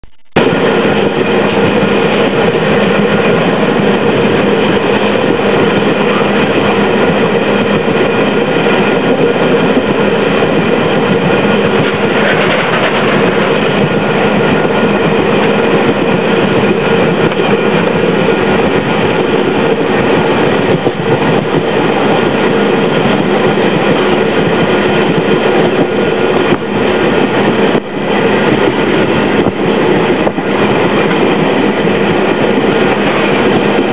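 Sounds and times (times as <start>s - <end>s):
constant hum: 0.4s - 33.9s
rumble and rattle of train wheels: 0.4s - 33.9s.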